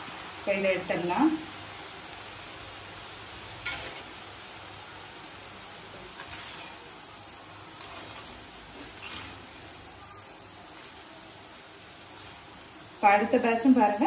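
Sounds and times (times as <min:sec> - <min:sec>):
deep-frying sizzle in hot oil: 0:00.0 - 0:14.0.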